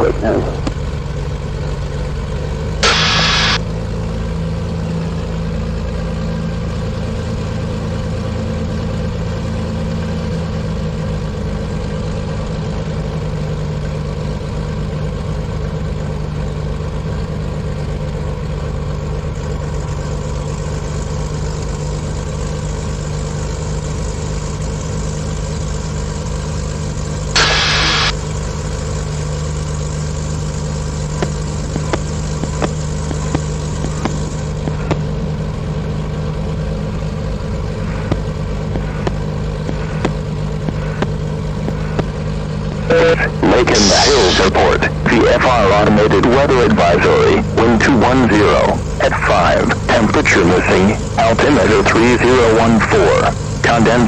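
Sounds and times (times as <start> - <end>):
twin piston aircraft engines running: 0.0 - 54.0.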